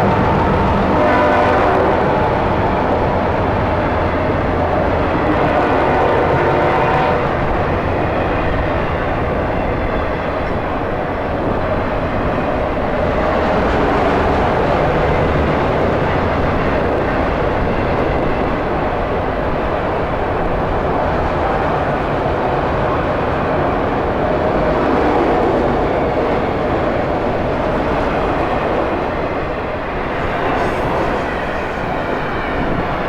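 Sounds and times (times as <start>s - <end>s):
train rumbling by: 0.0s - 33.0s.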